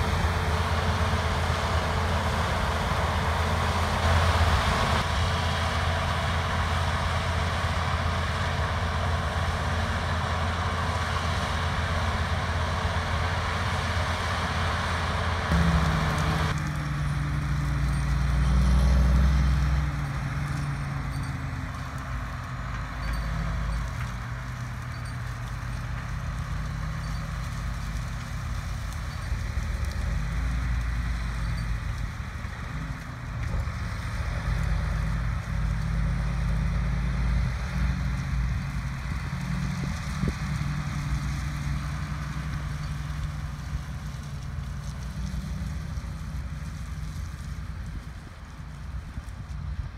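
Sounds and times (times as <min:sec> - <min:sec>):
deep diesel engine: 0:00.0 - 0:49.9
dense mechanical noise: 0:00.0 - 0:49.9.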